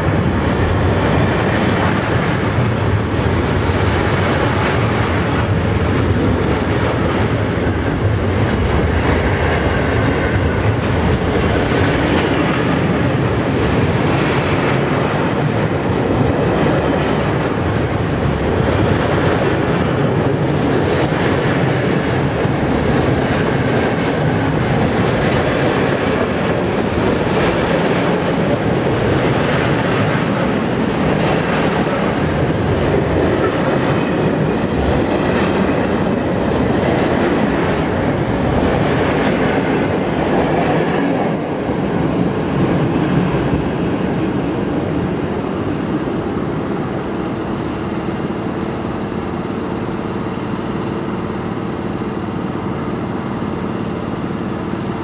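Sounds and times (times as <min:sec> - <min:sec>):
electric locomotive hum and whine: 0:00.0 - 0:55.0
train wheels clattering on rails: 0:00.0 - 0:55.0.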